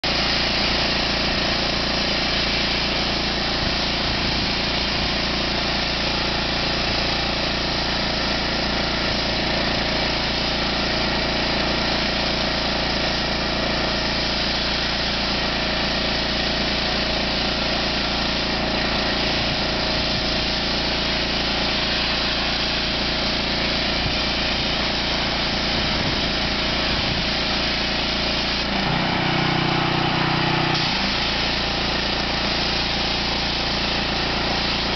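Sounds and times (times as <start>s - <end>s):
small gasoline engine running: 0.0s - 34.9s
blasting nozzle hiss: 0.1s - 29.7s, 30.6s - 34.9s.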